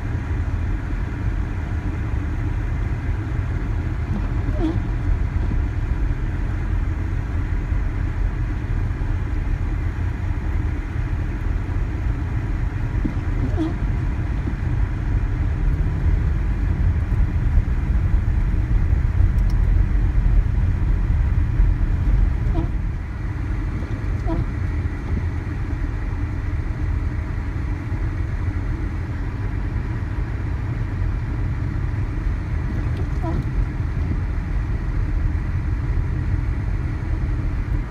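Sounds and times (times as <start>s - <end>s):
car engine and tyre noise: 0.0s - 37.9s.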